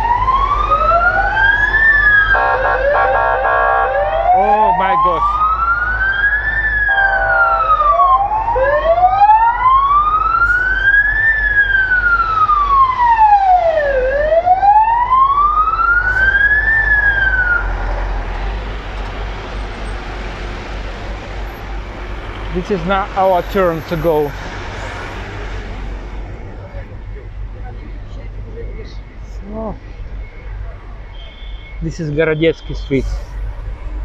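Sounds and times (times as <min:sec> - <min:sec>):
wailing sirens: 0:00.0 - 0:27.4
street traffic: 0:00.0 - 0:34.0.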